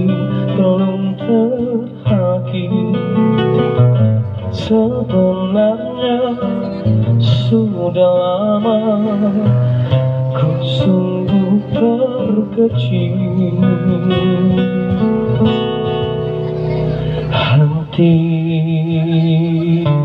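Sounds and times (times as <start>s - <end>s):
man singing: 0.0s - 15.9s, 16.9s - 20.0s
acoustic guitar strumming: 0.0s - 20.0s.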